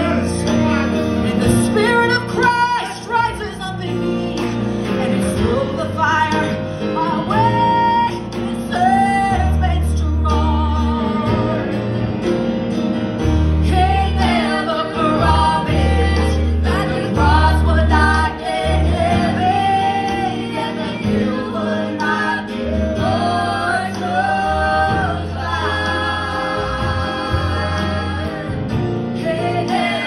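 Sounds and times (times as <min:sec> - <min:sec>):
women singing gospel song: 0:00.0 - 0:11.9, 0:13.4 - 0:30.0
live band accompaniment: 0:00.0 - 0:30.0
deep bass line: 0:03.4 - 0:30.0.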